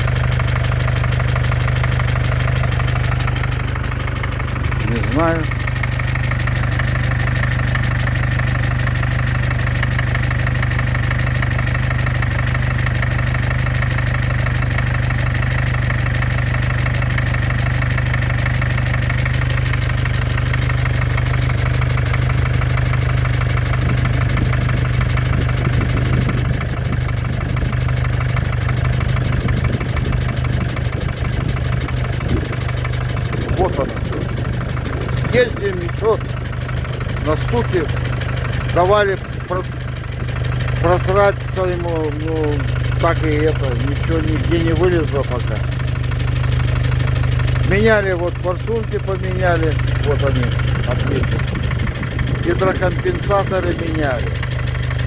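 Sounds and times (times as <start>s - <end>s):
diesel engine idling: 0.0s - 55.0s
rhythmic engine knock: 0.0s - 55.0s.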